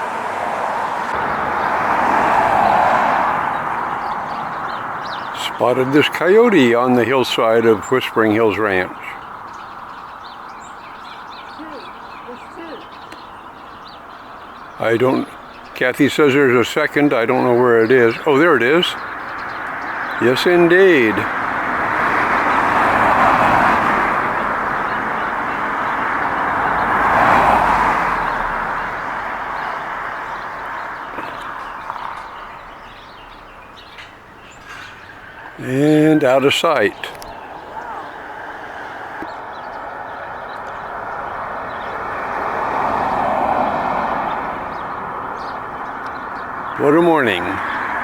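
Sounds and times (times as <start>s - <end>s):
cars passing with tyre noise: 0.0s - 48.0s.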